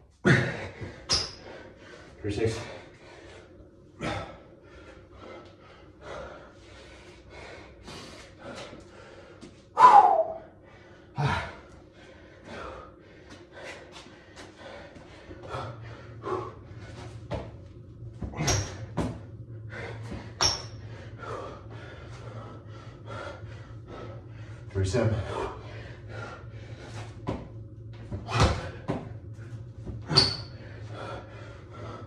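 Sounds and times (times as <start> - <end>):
low steady hum: 0.0 - 32.0
man breathing hard: 0.1 - 29.7, 30.4 - 32.0.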